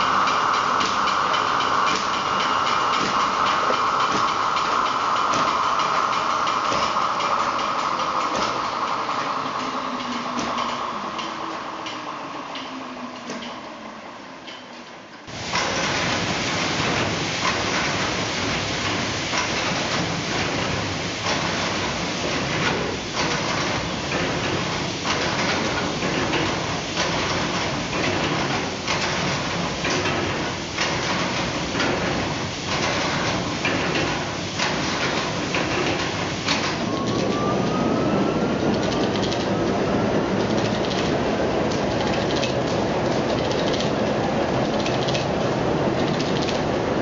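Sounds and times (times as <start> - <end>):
machinery clattering and knocking: 0.0 - 13.7, 15.3 - 47.0.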